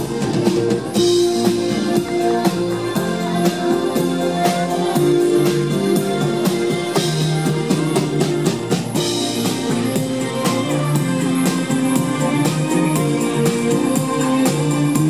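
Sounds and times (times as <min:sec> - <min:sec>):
drum kit steady beat: 0:00.0 - 0:15.0.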